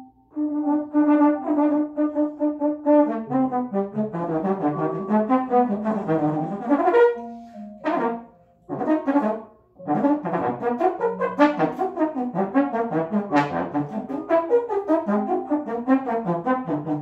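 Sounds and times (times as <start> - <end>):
trombone improvising rapid notes: 0.3 - 17.0.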